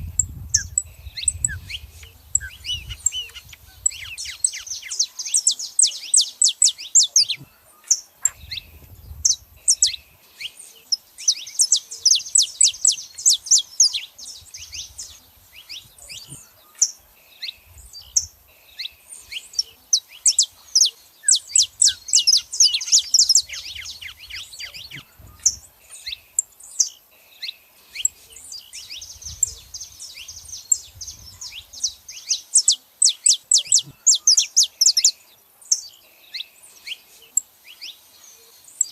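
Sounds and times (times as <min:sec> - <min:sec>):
finches calling: 0:00.0 - 0:38.9.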